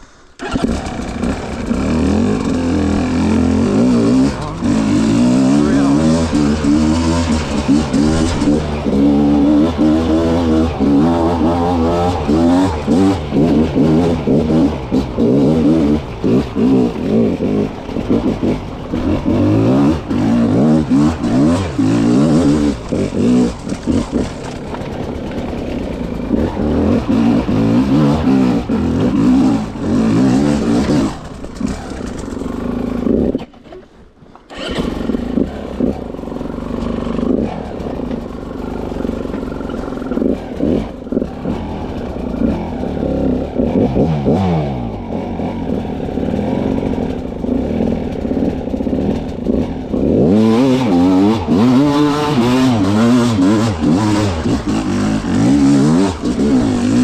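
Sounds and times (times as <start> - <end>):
dirt bike engine revving: 0.4 - 33.8, 34.5 - 57.0.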